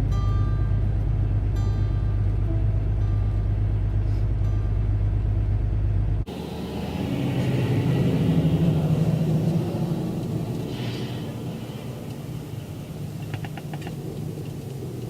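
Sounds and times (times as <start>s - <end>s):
low engine rumble: 0.0s - 15.0s
vehicle passing: 1.3s - 15.0s.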